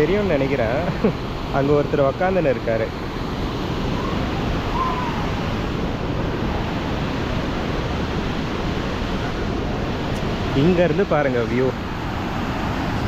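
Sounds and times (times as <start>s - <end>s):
waterfall and river rushing: 0.0s - 13.0s
wind buffeting microphone: 0.0s - 13.0s.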